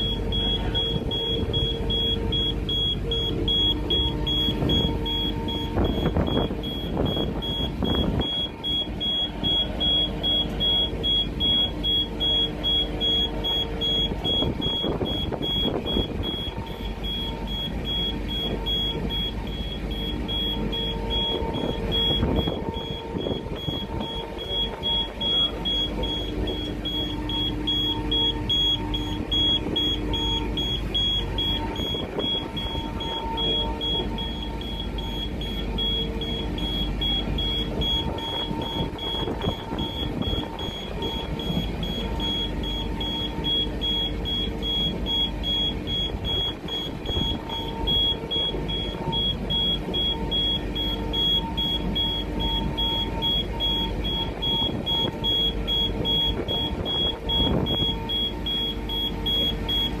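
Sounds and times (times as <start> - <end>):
low humming tones: 0.0 - 60.0
rail car running rumble: 0.0 - 60.0.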